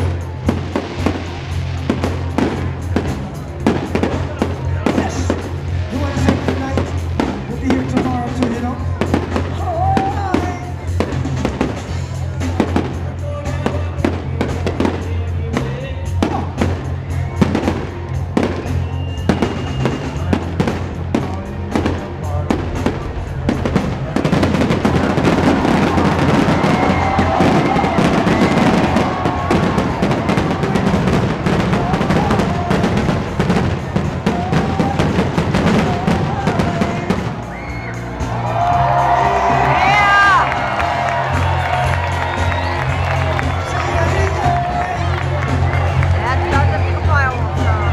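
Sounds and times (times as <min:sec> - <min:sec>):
fireworks bursting: 0:00.0 - 0:47.2
music with steady bass: 0:00.0 - 0:47.9.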